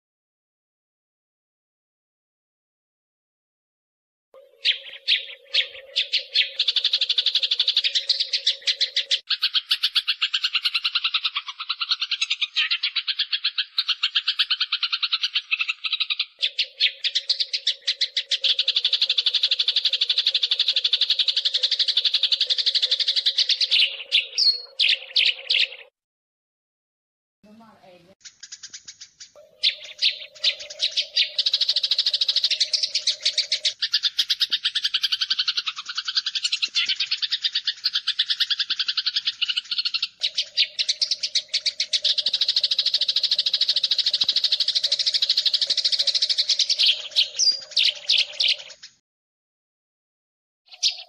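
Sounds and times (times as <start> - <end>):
sparrows chirping: 4.4 - 25.9, 27.5 - 49.0, 50.7 - 51.0.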